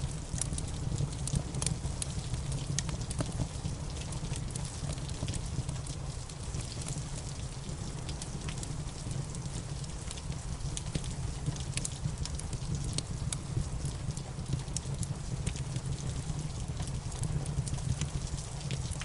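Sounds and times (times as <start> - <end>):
steady rain: 0.0 - 19.0
wood fire crackling and popping: 0.0 - 19.0.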